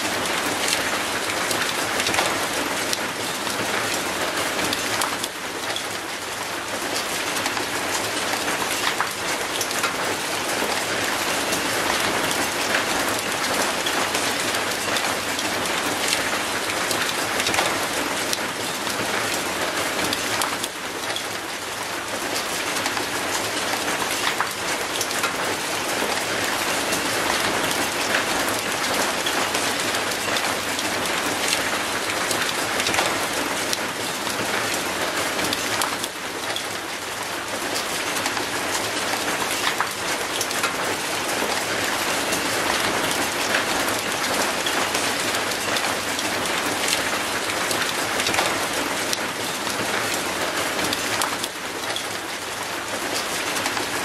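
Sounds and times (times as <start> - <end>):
rain on concrete and metal gate: 0.0 - 54.0.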